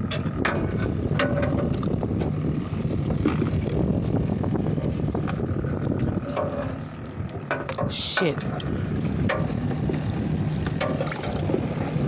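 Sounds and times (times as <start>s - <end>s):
boat low rumble: 0.0s - 12.0s
wind on microphone: 0.0s - 12.0s.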